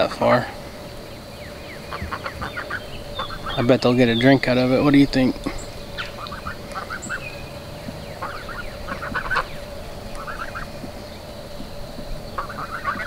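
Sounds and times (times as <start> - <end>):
geese and ducks honking: 0.0 - 13.0.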